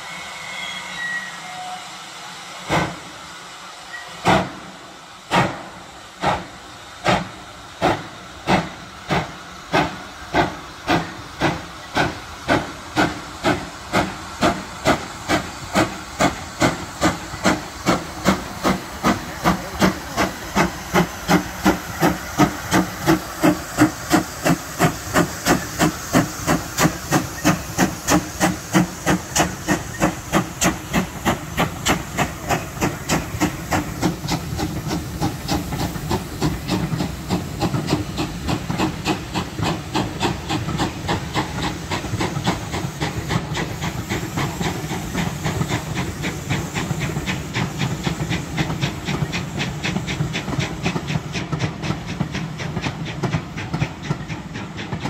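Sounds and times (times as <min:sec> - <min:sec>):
steam hissing: 0:00.0 - 0:55.0
steam locomotive exhaust chuffs: 0:00.0 - 0:55.0.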